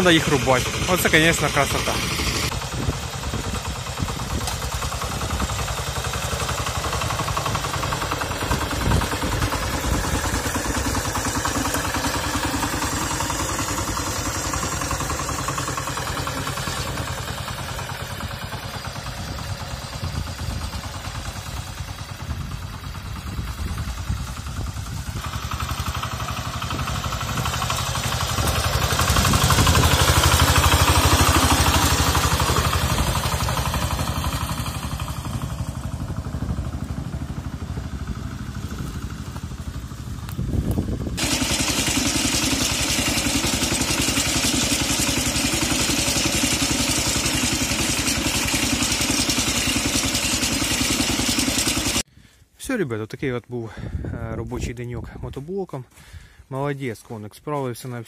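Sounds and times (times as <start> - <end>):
diesel engine under load: 0.0 - 52.5.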